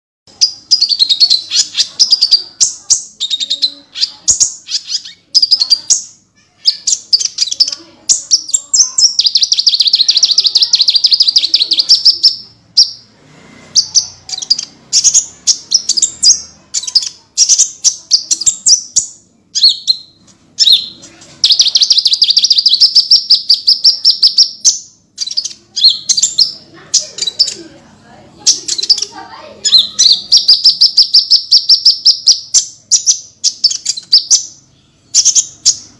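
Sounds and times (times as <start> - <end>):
bird singing fast trills: 0.3 - 13.1, 13.8 - 27.6, 28.4 - 35.9.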